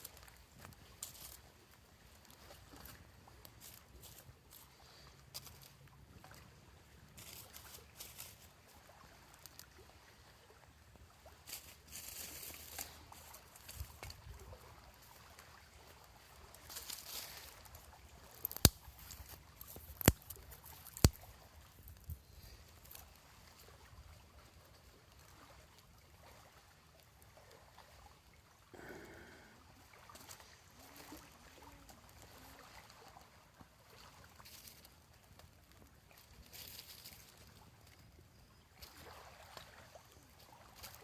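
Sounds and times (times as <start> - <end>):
faint trickling water: 0.0 - 41.0.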